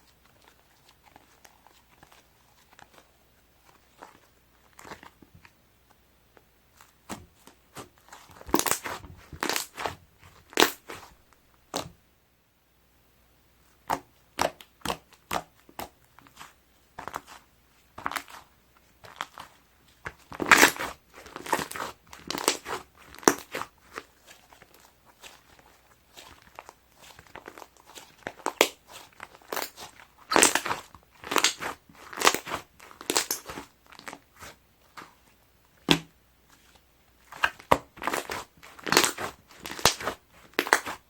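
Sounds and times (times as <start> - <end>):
slime squishing with sticky crackles: 0.0 - 5.6, 6.7 - 12.0, 13.6 - 41.0.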